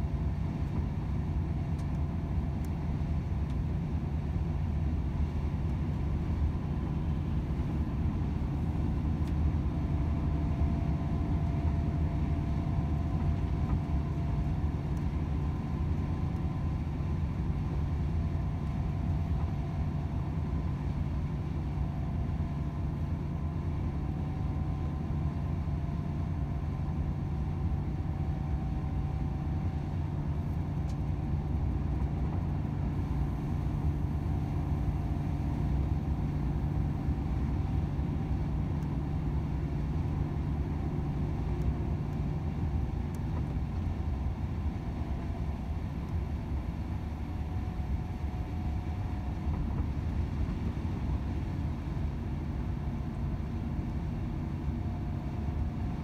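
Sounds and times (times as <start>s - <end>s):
road and tyre drone: 0.0s - 56.0s.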